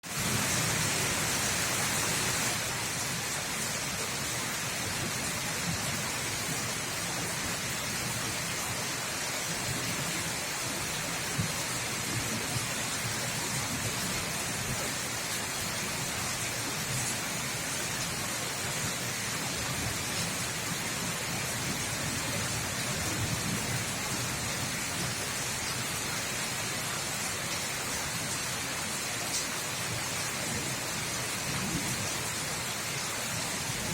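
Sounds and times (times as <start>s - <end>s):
rain falling steadily: 0.0s - 33.9s.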